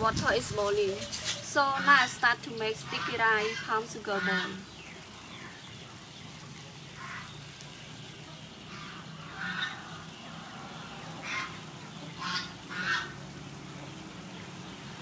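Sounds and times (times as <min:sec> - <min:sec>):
birds calling: 0:00.3 - 0:15.0.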